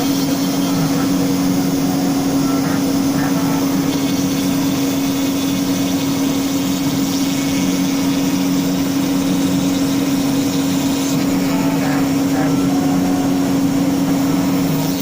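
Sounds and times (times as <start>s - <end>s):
cnc router spindle cutting wood: 0.0s - 15.0s.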